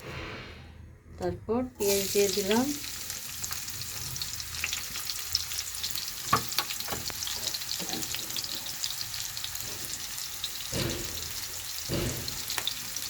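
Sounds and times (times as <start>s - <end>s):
onions sizzling in oil: 1.8s - 13.0s.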